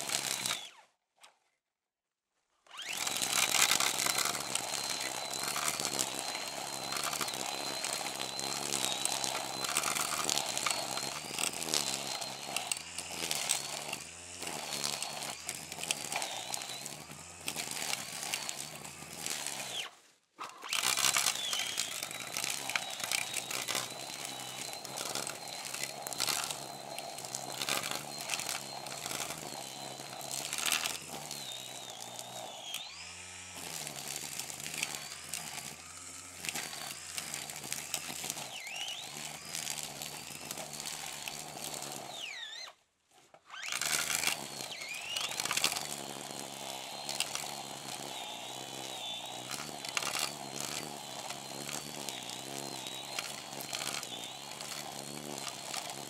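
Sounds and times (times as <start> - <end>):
brush cutter whining: 0.0 - 1.4, 2.6 - 56.0.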